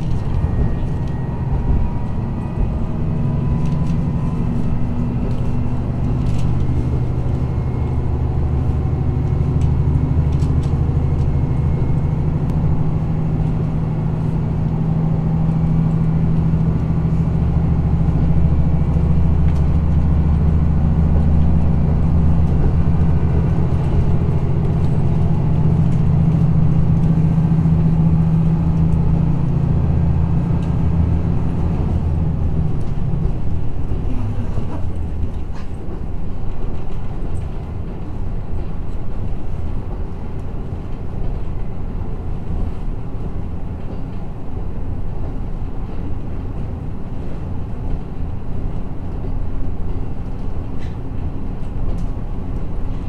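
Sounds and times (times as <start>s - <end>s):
railcar diesel engine drone: 0.0s - 53.0s.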